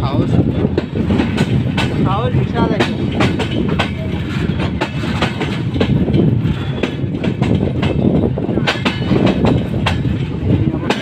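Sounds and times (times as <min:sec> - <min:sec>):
train wheels rumbling on rails: 0:00.0 - 0:11.0
wheels clicking over rail joints: 0:00.2 - 0:11.0.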